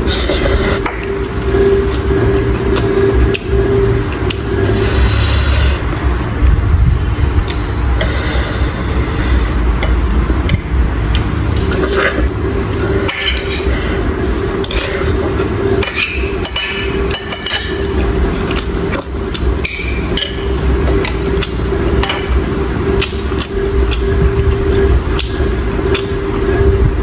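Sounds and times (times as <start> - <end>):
utensils clinking against bowl: 0.0 - 6.1, 7.5 - 26.3
steady hum: 0.0 - 27.0.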